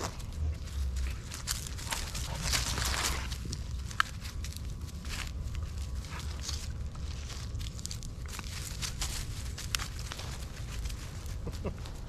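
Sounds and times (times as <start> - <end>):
stick and paws clicking: 0.0 - 12.0.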